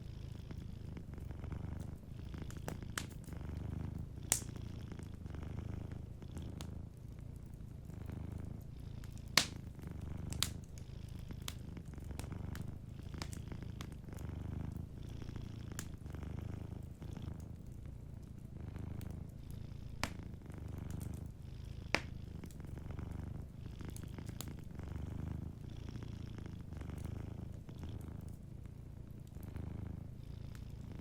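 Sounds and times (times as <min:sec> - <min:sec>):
cat purring: 0:00.0 - 0:31.0
wood fire crackling: 0:00.6 - 0:25.6, 0:26.5 - 0:29.4.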